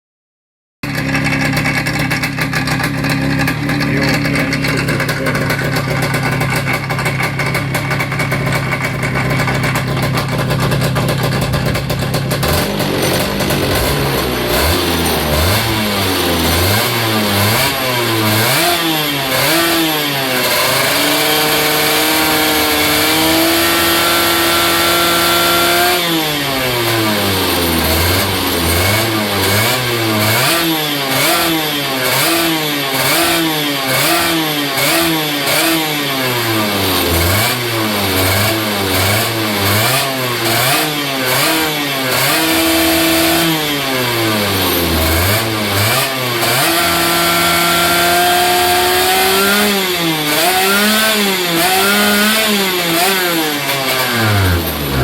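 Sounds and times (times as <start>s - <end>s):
two-stroke kart engine revving: 0.8s - 55.0s.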